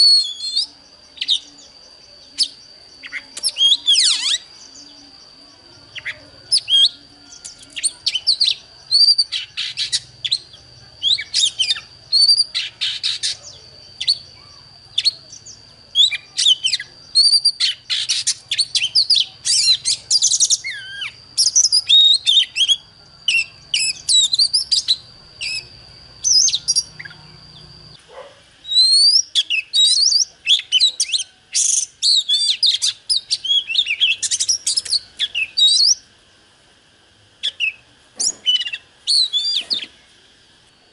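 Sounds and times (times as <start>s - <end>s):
bird singing varied phrases: 0.0s - 28.0s, 28.6s - 36.2s, 37.3s - 40.3s.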